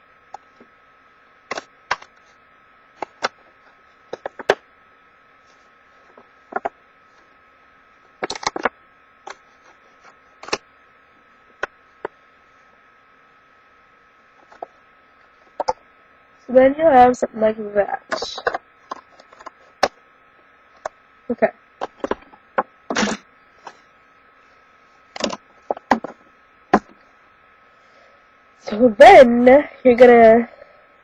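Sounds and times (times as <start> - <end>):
faint hum: 0.0 - 31.0.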